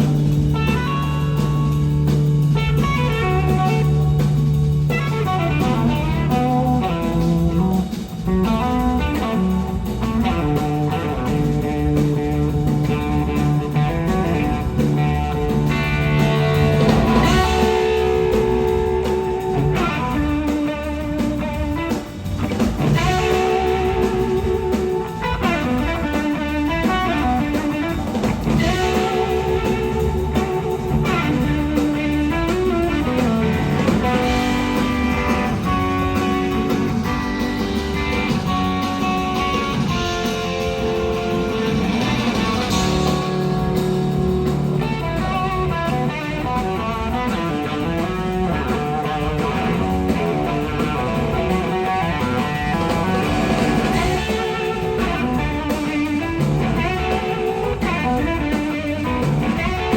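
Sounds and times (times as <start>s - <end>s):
band playing: 0.0s - 59.9s.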